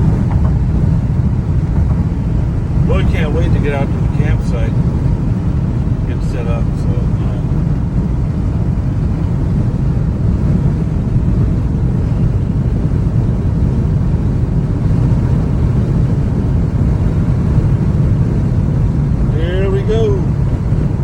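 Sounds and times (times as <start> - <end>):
road and engine rumble in a cab: 0.0 - 21.0.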